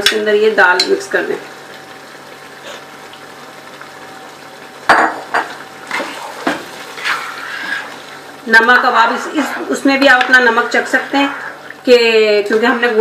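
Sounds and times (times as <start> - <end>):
quiet sizzling in pot: 0.0 - 13.0.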